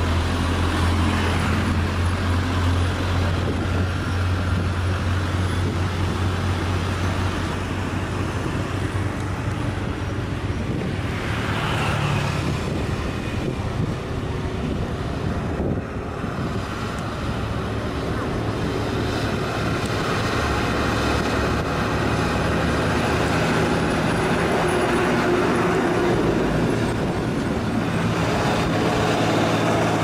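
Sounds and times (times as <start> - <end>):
car passing with tyre noise: 0.0 - 30.0
diesel trucks climbing: 0.0 - 30.0.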